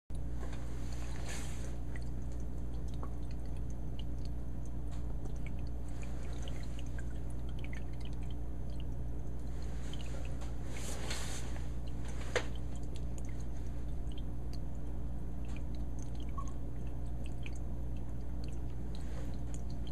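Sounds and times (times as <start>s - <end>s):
aquarium water hum: 0.1s - 19.9s
faint water drips and trickles: 0.1s - 19.9s.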